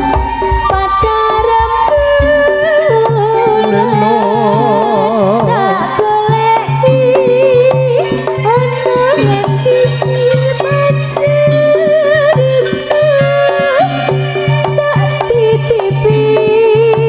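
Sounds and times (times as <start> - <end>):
hand drum strokes: 0.0 - 17.0
wavering melody: 0.0 - 17.0.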